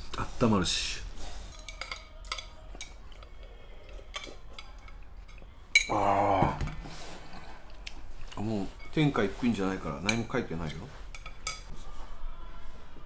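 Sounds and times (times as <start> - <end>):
utensils clinking on bowl: 1.3 - 11.8.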